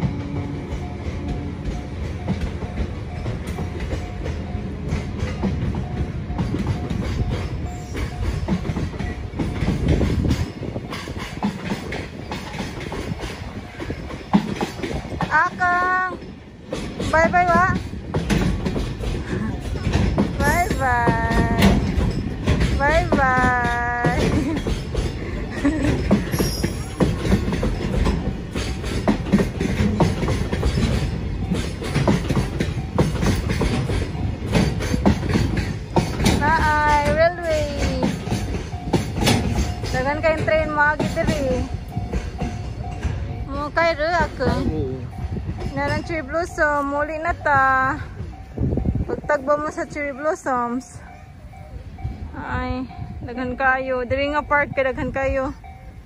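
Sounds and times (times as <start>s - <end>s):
crossing warning bell dings: 0.0s - 56.0s
train wheels rumbling and clacking: 0.0s - 56.0s.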